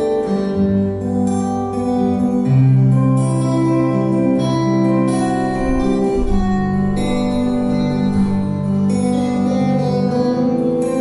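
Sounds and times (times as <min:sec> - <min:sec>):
acoustic guitar duet: 0:00.0 - 0:11.0.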